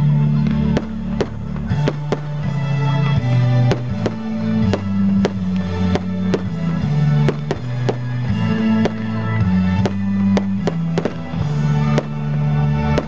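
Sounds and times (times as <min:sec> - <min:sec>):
music with low notes: 0:00.0 - 0:13.0
fireworks bangs: 0:00.4 - 0:13.0.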